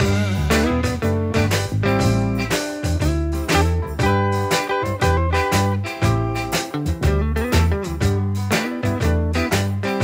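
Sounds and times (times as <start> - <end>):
music with bass and steady beat: 0.0 - 10.0.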